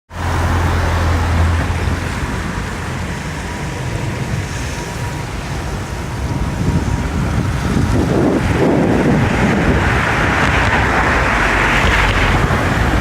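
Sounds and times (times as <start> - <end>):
heavy low rumbling: 0.1 - 13.0
steady rushing noise: 0.1 - 13.0
wind buffeting microphone: 1.2 - 13.0.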